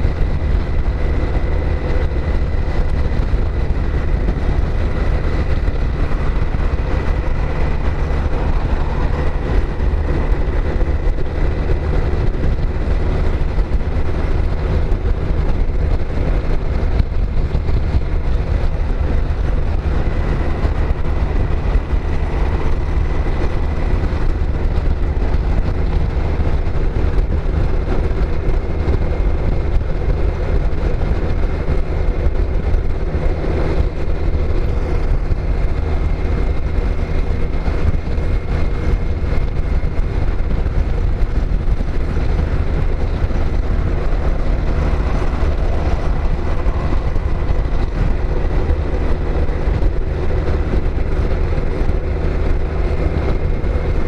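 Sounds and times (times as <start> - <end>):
motorcycle engine cruising: 0.0 - 54.0
wind rush on microphone: 0.0 - 54.0.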